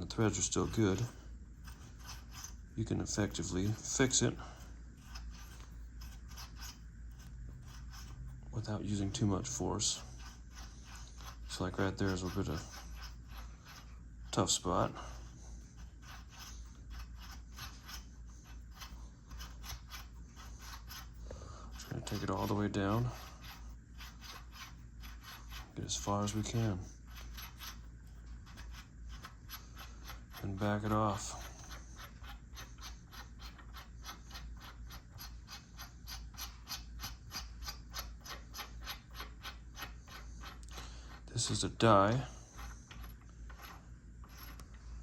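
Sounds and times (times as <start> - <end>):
thread die scraping on bolt: 0.0 - 44.9.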